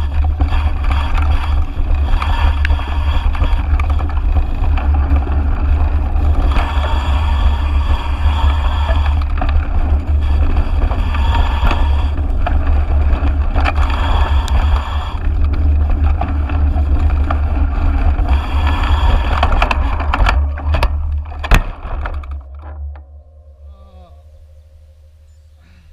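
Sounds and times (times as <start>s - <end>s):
bike tyre and frame rattle: 0.0s - 23.7s.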